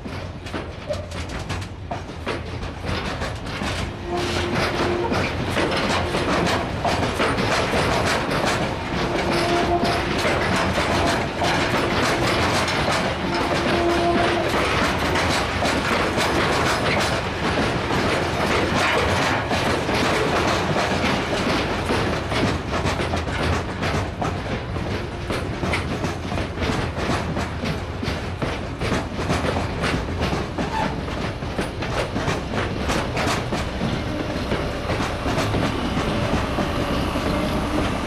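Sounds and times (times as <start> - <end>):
train wheels clattering over rail joints: 0.0 - 38.0.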